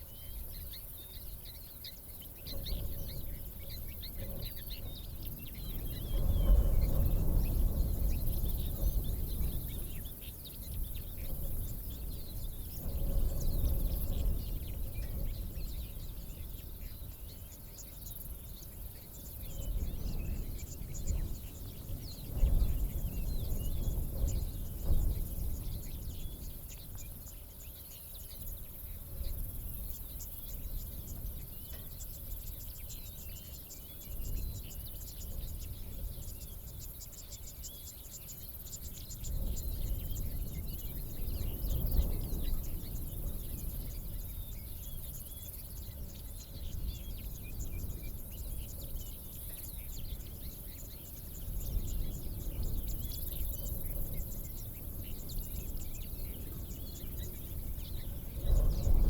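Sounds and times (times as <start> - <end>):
insects chirping: 0.0 - 59.0
small birds chirping: 0.0 - 59.0.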